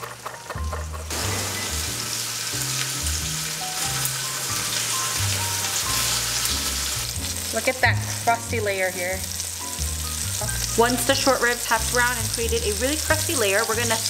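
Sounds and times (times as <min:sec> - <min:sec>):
meat sizzling in oil: 0:00.0 - 0:14.0
background music bass line: 0:00.6 - 0:14.0.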